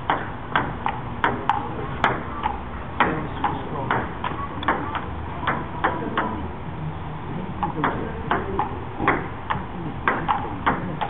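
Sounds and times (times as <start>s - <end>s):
ping pong ball ticking: 0.0s - 6.4s, 7.6s - 11.0s.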